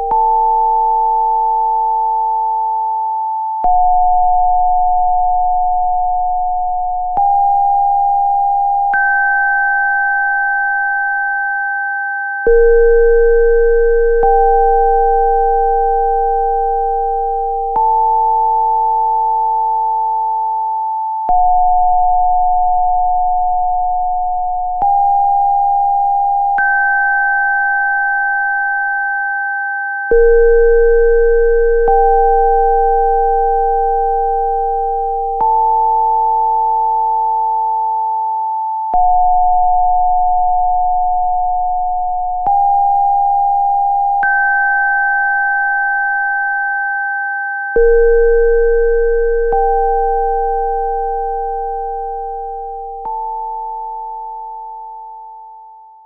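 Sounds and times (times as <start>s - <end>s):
electronic sine tones: 0.0s - 56.0s.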